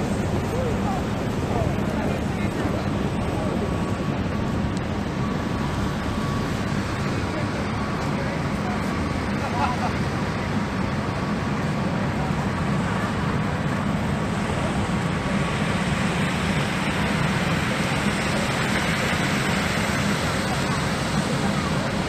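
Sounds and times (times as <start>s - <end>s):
city traffic hiss and rumble: 0.0s - 22.0s.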